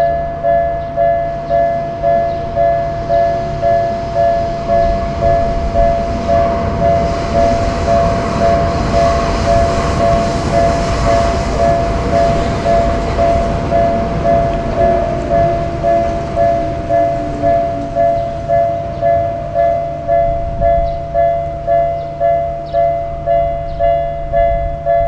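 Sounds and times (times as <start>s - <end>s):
level crossing warning bell: 0.0s - 25.0s
train rumble: 0.0s - 25.0s.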